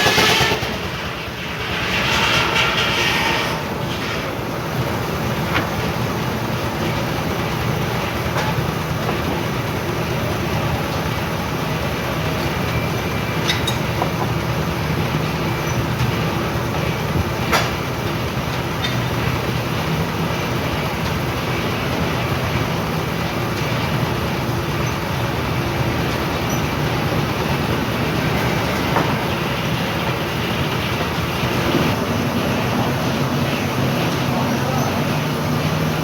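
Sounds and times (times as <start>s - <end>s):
steam engine driving sawmill: 0.0s - 36.0s.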